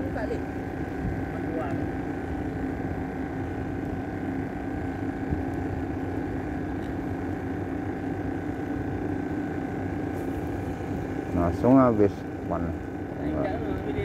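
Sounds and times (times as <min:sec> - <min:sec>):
motor droning steadily: 0:00.0 - 0:14.0.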